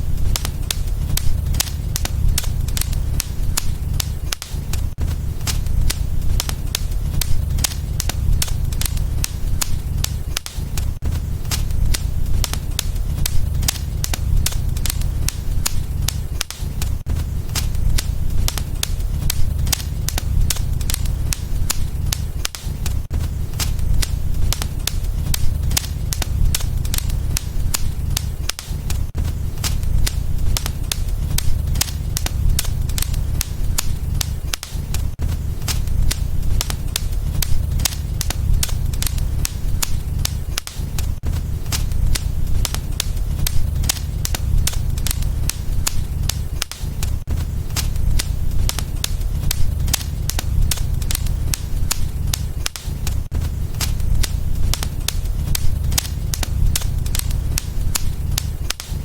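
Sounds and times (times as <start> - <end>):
low rumble: 0.0 - 58.7
wood fire crackling: 0.0 - 59.0.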